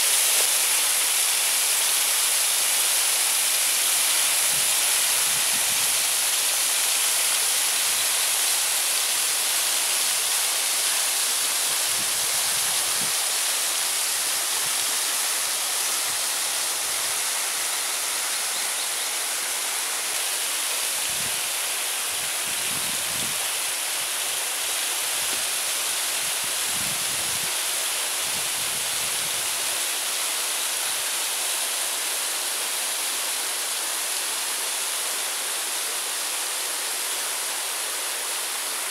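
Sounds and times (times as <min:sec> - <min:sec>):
waterfall hissing: 0:00.0 - 0:38.9.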